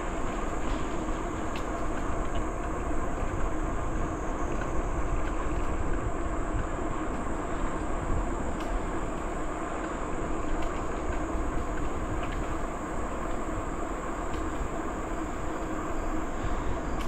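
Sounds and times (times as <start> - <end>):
bicycle tyres rolling on a trail: 0.0 - 17.0.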